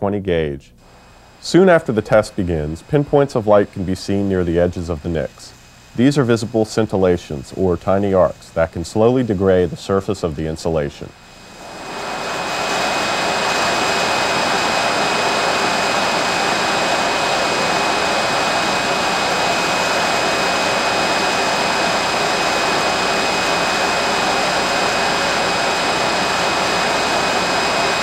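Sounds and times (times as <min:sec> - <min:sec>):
machine rushing noise: 0:00.9 - 0:09.9, 0:11.2 - 0:28.0.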